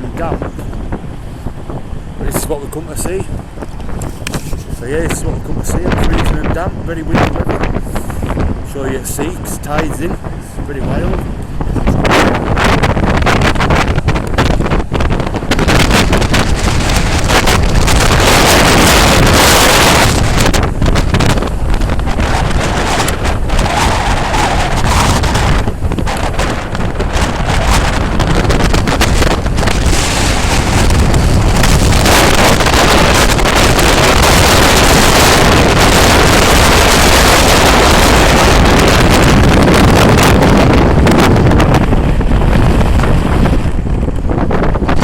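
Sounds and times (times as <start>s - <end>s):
sea surf: 0.0s - 45.0s
wind buffeting microphone: 0.0s - 45.0s.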